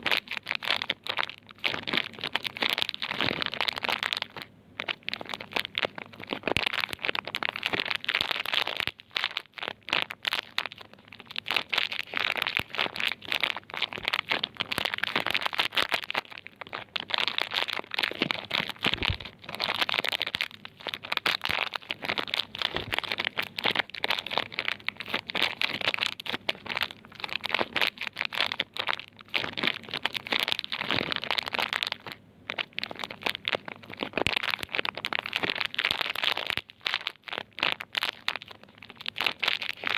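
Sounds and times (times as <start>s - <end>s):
packaging crinkling: 0.0s - 39.9s.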